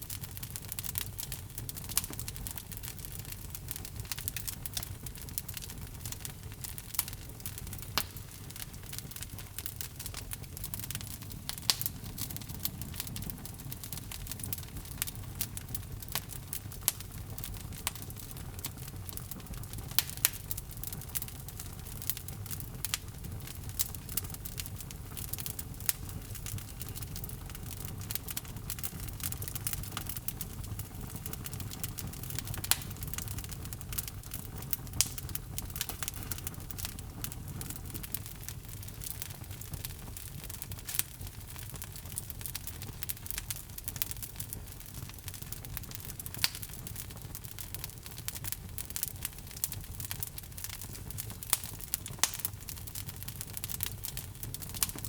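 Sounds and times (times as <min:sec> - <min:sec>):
burning logs crackling and popping: 0:00.0 - 0:55.0
flames rumbling: 0:00.0 - 0:55.0.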